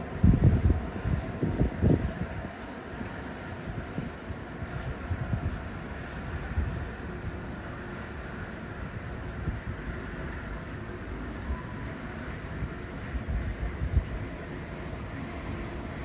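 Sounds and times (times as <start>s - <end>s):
rushing wind: 0.0s - 16.0s
wind buffeting microphone: 0.0s - 16.0s.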